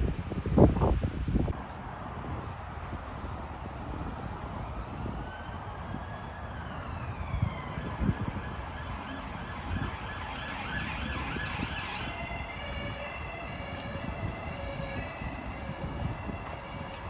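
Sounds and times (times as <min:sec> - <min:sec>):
wind buffeting microphone: 0:00.0 - 0:17.0
siren wailing: 0:02.2 - 0:17.0.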